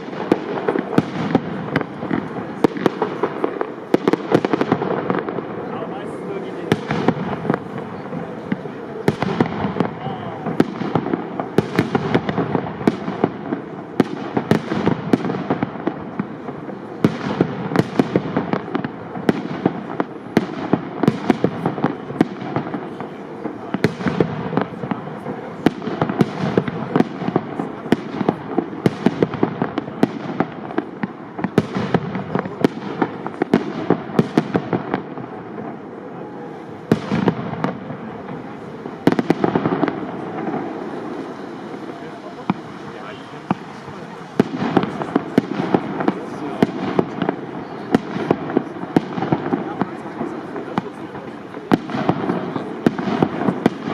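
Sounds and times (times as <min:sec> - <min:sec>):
firework crackling: 0:00.0 - 0:53.9.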